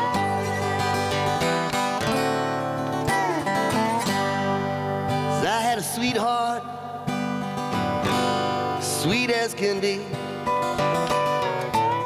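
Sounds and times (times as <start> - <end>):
acoustic guitar strumming: 0.0 - 12.0
resonator guitar playing: 0.0 - 12.0.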